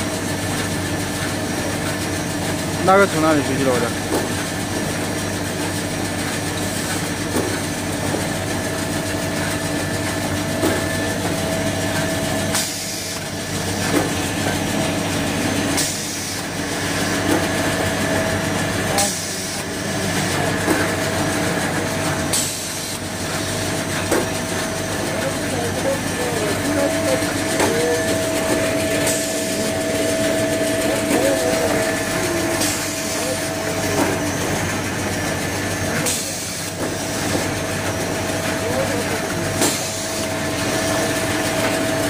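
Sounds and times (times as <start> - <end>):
machine mechanical hum: 0.0 - 42.0.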